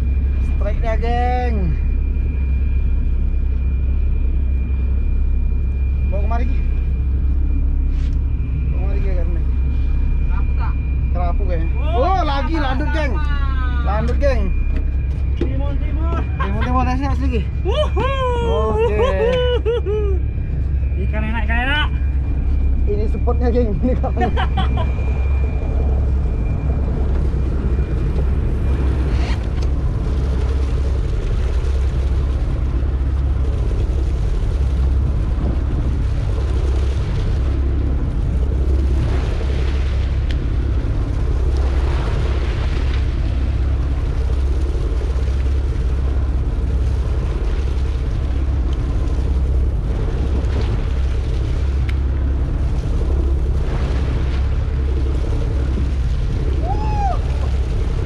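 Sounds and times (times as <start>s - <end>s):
faint steady hum: 0.0s - 58.0s
wind buffeting microphone: 6.0s - 58.0s.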